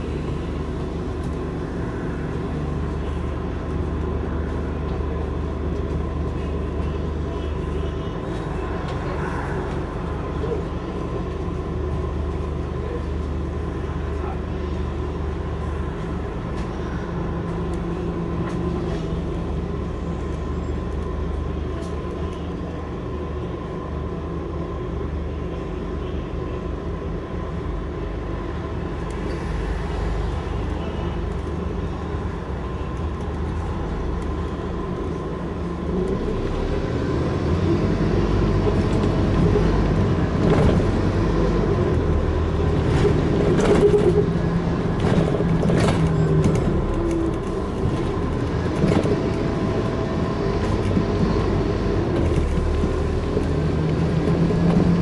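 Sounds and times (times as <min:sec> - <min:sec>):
bus diesel engine idling and accelerating: 0:00.0 - 0:55.0.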